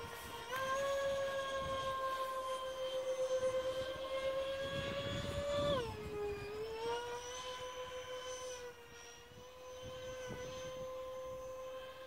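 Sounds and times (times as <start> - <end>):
model jet motor whining: 0.0 - 12.0.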